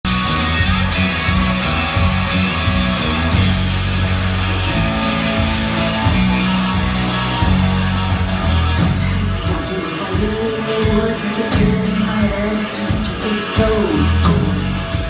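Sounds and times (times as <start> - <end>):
bass guitar line: 0.0 - 15.0
guitar: 0.0 - 15.0.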